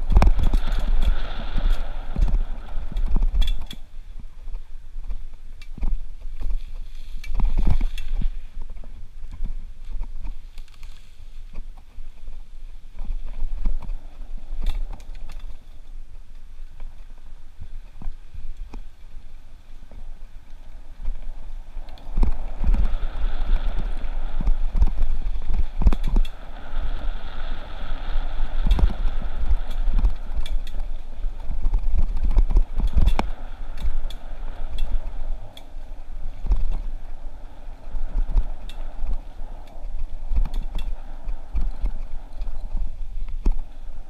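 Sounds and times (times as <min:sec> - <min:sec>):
bike knocking and rattling: 0:00.0 - 0:20.3, 0:20.9 - 0:26.8, 0:28.3 - 0:37.0, 0:37.8 - 0:43.7
wind rumbling on microphone: 0:00.0 - 0:44.0.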